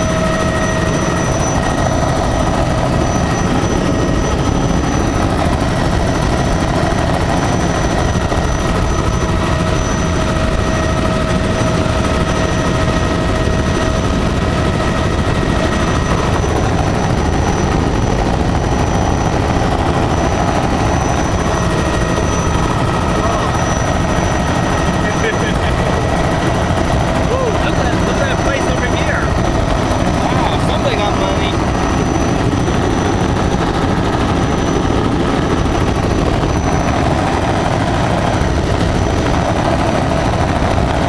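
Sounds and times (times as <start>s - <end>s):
constant whine: 0.0s - 41.0s
helicopter rotor and engine drone: 0.0s - 41.0s.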